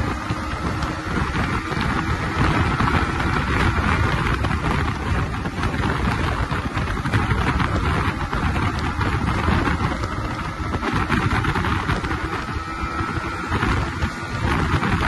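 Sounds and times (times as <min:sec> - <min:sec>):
motorcycle engine running at speed: 0:00.0 - 0:15.0
wind buffeting microphone: 0:00.0 - 0:15.0.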